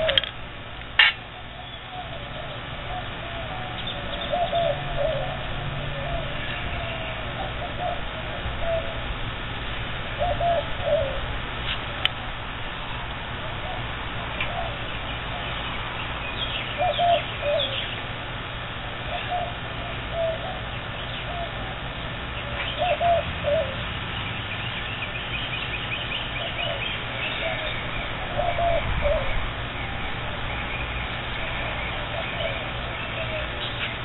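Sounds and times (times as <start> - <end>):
dove cooing: 0.0 - 0.3, 1.0 - 9.2, 10.1 - 11.4, 13.4 - 15.6, 16.4 - 18.3, 19.0 - 24.0, 25.2 - 34.0
small birds chirping: 0.0 - 9.1, 12.7 - 34.0.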